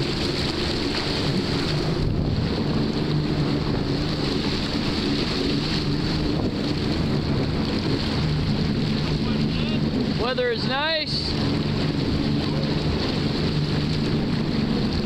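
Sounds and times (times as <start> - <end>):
jet ski engines droning: 0.0 - 15.0
water rushing past hull: 0.0 - 15.0
wind buffeting microphone: 0.0 - 15.0.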